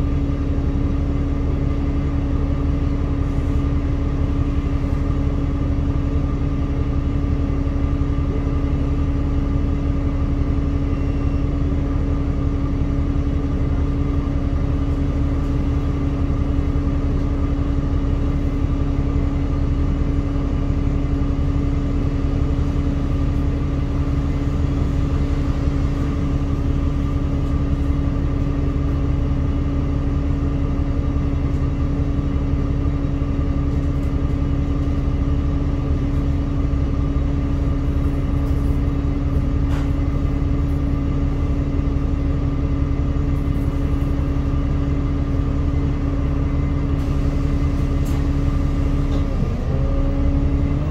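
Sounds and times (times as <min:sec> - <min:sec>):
bus engine idling: 0:00.0 - 0:50.9.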